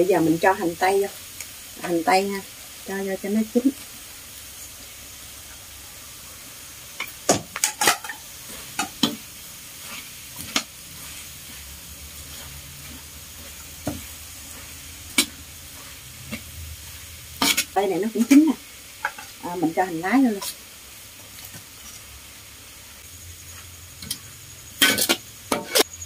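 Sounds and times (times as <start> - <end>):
food sizzling in wok: 0.0 - 26.0
spatula scraping wok: 0.3 - 26.0.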